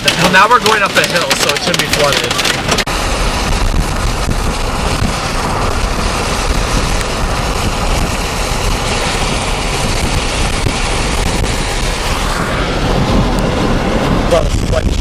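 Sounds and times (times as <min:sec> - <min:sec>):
tyres running through water: 0:00.0 - 0:12.1
heavy rain on car: 0:00.0 - 0:15.0.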